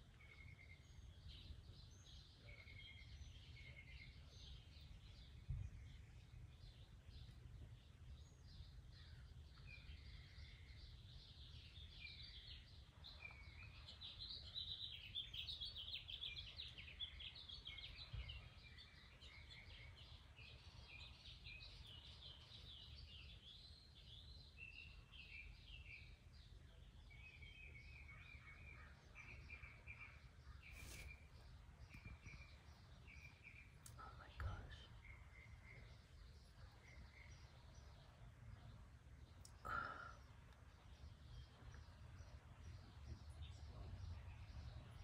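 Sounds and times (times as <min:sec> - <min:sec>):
faint birdsong chirps: 0:00.0 - 0:45.0.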